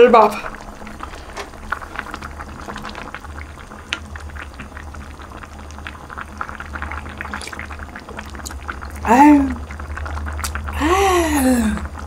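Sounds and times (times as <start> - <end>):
steady low hum: 0.0 - 12.0
stew bubbling in a pot: 0.0 - 12.0.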